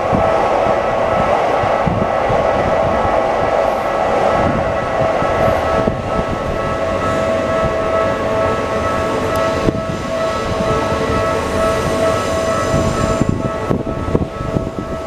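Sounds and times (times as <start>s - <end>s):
level crossing warning bell: 0.0s - 15.0s
train wheels rumbling on rail: 0.0s - 15.0s.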